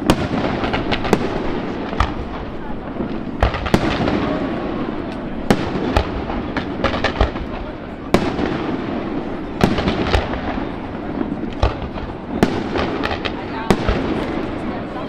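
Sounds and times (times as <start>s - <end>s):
fireworks bursting with bangs: 0.0s - 15.0s.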